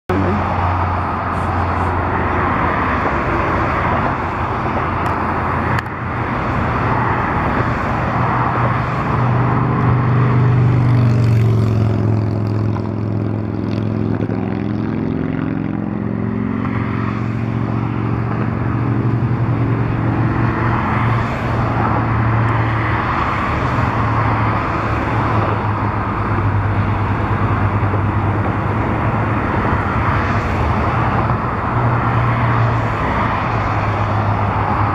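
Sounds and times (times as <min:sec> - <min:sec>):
engine passing by: 0:00.1 - 0:34.9
low engine drone: 0:00.1 - 0:34.9.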